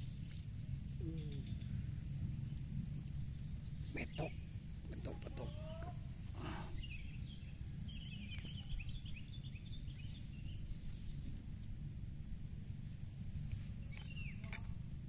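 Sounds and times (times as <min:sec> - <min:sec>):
small birds twittering: 0:00.0 - 0:11.9, 0:13.5 - 0:15.0.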